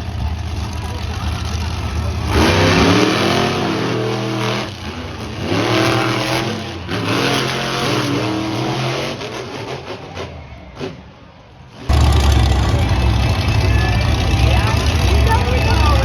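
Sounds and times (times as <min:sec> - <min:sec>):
monster truck engines at full throttle: 0:00.0 - 0:16.0.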